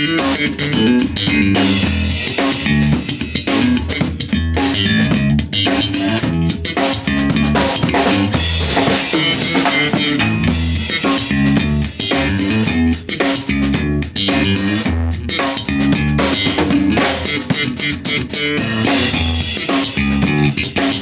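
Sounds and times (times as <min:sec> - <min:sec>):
drum kit hits: 0:00.0 - 0:21.0
electric bass groove: 0:00.0 - 0:21.0.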